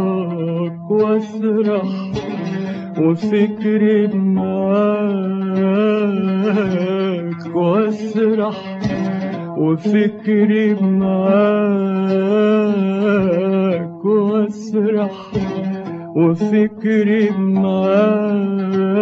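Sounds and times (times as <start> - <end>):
man singing melismatic notes: 0.0 - 19.0.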